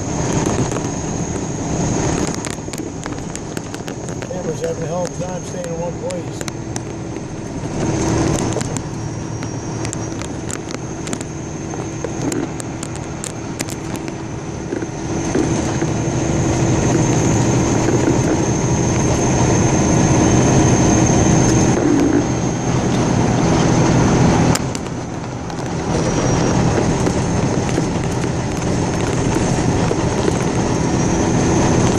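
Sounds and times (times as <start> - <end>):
vehicle engine with road noise: 0.0 - 31.9.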